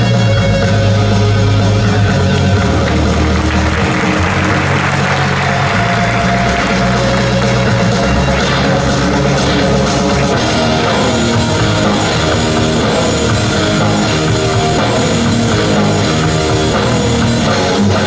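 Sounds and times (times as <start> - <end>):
drum kit: 0.0 - 18.0
electric guitar: 0.0 - 18.0.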